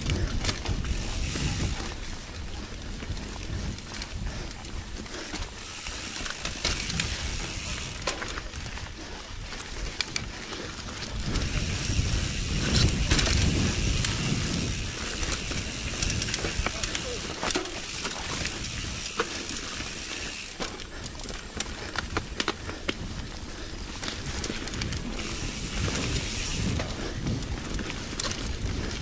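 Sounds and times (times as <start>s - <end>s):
bike drivetrain rattling and clicking: 0.0s - 29.0s
tyres rolling on dirt and leaves: 0.0s - 29.0s.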